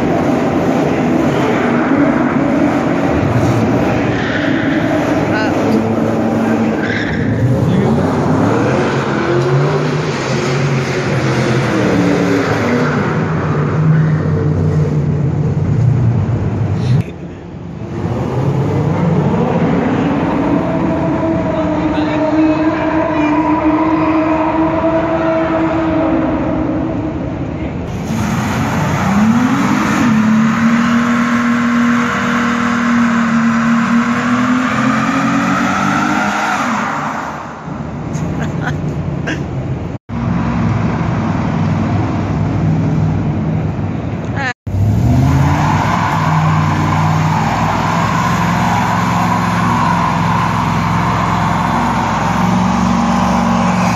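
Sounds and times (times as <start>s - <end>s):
car engine revving: 0.0s - 44.1s, 44.7s - 53.9s.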